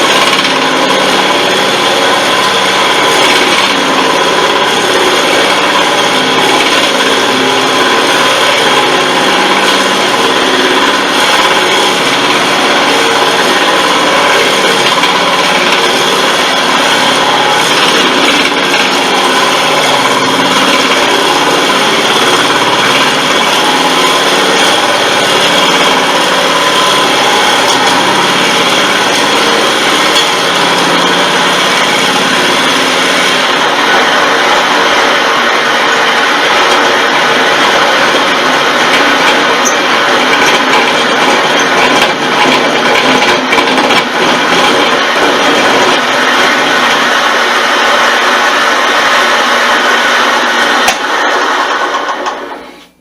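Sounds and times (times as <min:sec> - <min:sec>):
drill bit cutting wood: 0:00.0 - 0:53.0
wood lathe running: 0:00.0 - 0:53.0.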